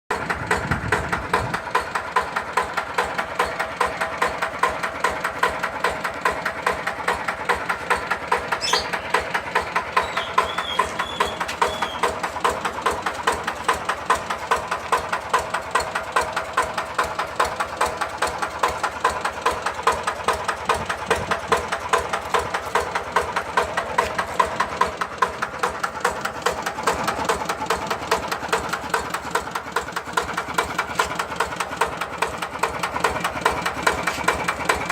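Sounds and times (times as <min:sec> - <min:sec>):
diesel engine running steadily: 0:00.1 - 0:34.9.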